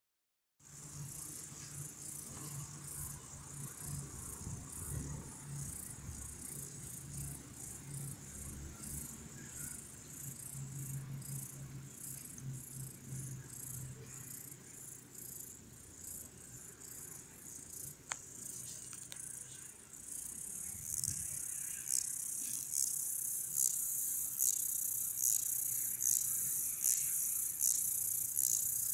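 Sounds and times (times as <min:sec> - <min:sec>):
grasshoppers chirping: 0:00.7 - 0:28.9.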